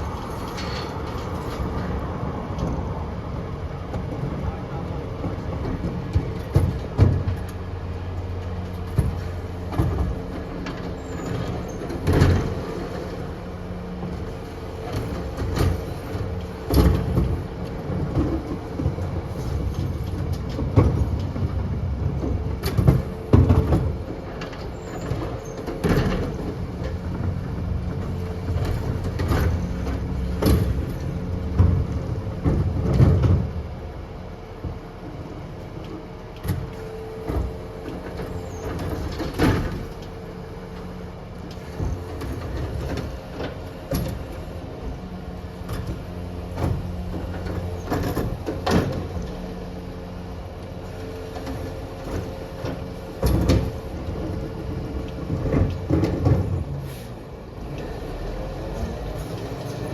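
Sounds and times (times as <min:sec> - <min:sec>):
lorry engine running: 0:00.0 - 0:59.9.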